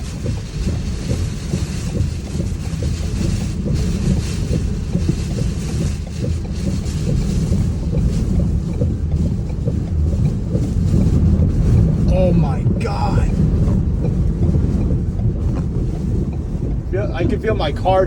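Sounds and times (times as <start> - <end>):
gusty wind buffeting a car: 0.0 - 18.0.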